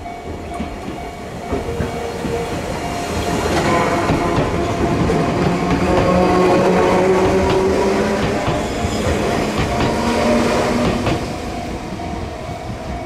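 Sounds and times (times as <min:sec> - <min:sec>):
crossing bell ringing: 0:00.0 - 0:13.0
train wheels clacking on rails: 0:00.0 - 0:13.0.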